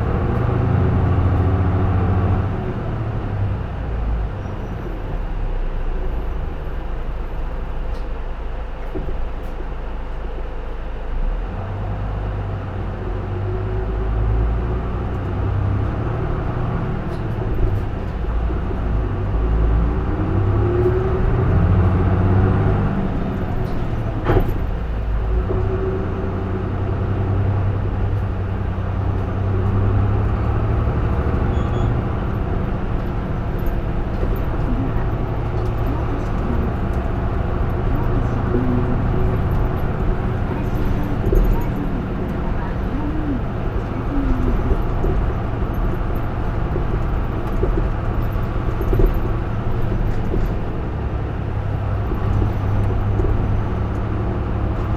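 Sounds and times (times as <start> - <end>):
bus diesel engine from inside: 0.0 - 54.9.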